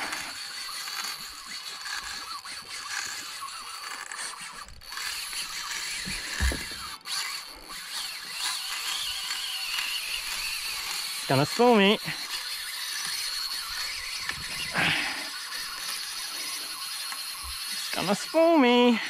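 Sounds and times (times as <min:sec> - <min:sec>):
fishing reel whirring and clicking: 0:00.0 - 0:19.0.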